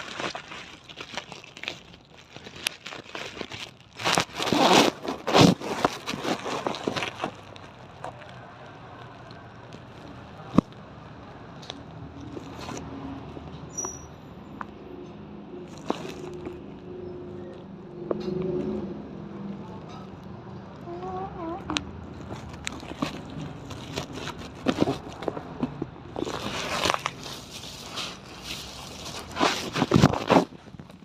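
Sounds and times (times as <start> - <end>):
irregular clicks and crackles: 0.0 - 18.7, 21.7 - 31.0.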